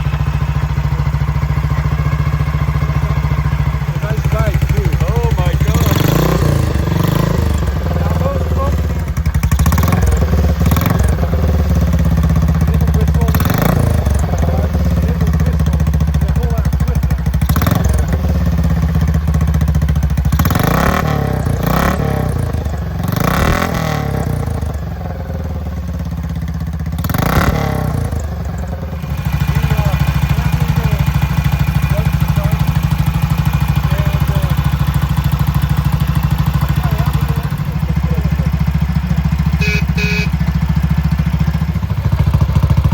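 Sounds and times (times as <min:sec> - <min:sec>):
motorcycle engine revving and idling: 0:00.0 - 0:42.9.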